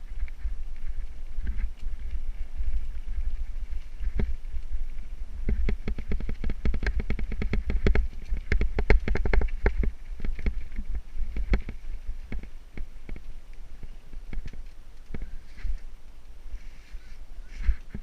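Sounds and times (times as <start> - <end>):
mountain bike rattling on trail: 0.0 - 16.9
wind rumble on microphone: 0.0 - 18.0.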